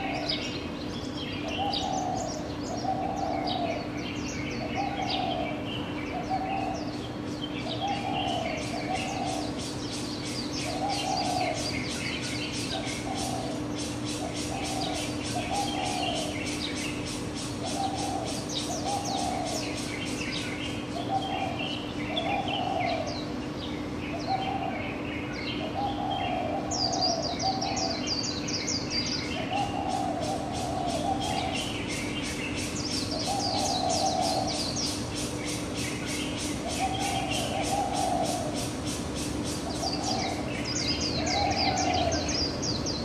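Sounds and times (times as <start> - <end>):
low cooing bird call: 0.0 - 43.0
songbirds chirping and trilling: 0.0 - 43.0
steady low hum: 0.0 - 43.0.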